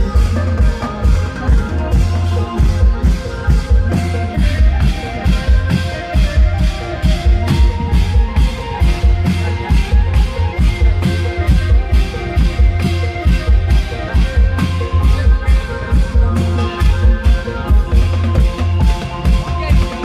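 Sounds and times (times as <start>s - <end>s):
deep bass: 0.0s - 20.0s
fast drum beat: 0.0s - 20.0s
held melody line: 0.0s - 20.0s.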